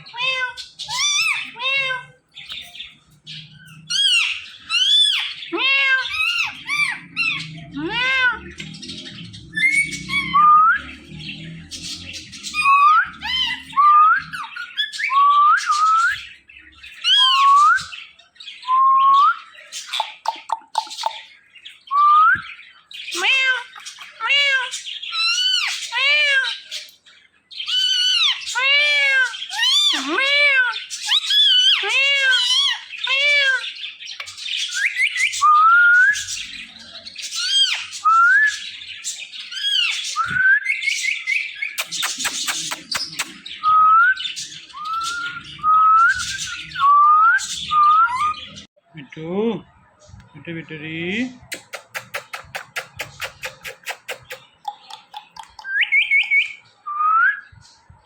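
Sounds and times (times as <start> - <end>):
parrot squawking and chirping: 0.0 - 48.7, 51.4 - 57.6.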